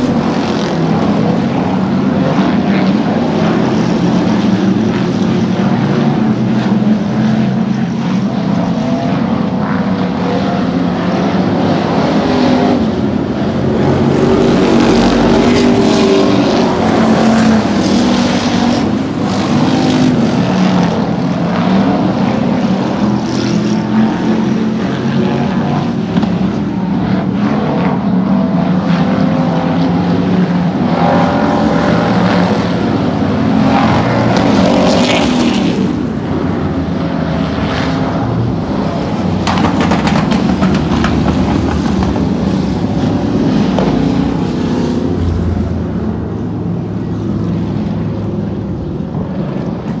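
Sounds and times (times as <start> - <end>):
race car engines passing: 0.0 - 50.0.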